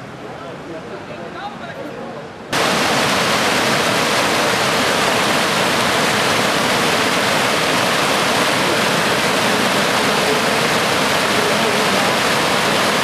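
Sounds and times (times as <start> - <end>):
floodwater rushing along boat hull: 2.3 - 13.0.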